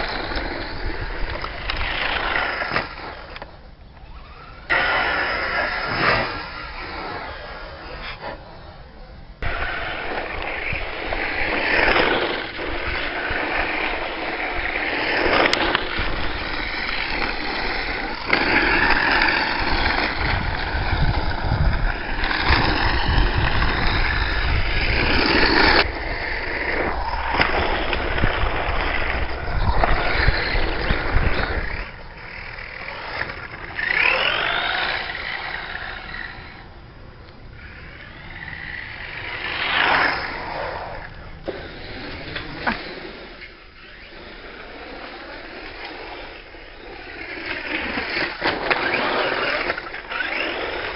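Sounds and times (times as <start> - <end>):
electric motor whine: 0.0 - 50.9
tyres on gravel and tarmac: 0.0 - 50.9.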